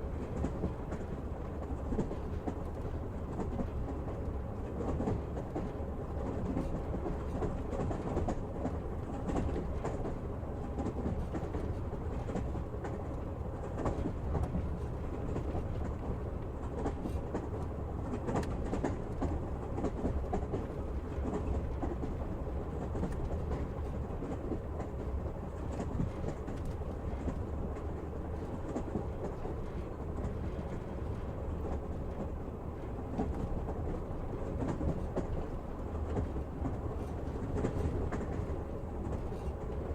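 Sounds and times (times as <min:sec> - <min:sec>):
train carriage rumble: 0:00.0 - 0:39.9
wheels clickety-clack over rail joints: 0:00.0 - 0:39.9.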